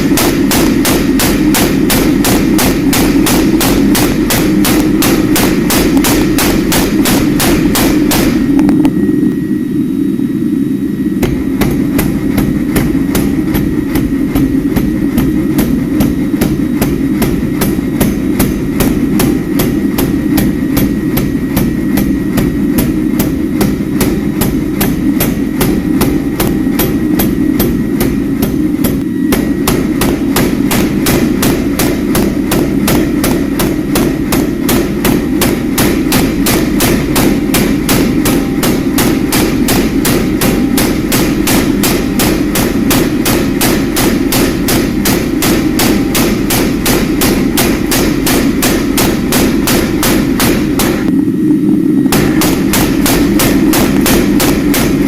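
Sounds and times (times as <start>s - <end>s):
low rushing noise: 0.0s - 55.0s.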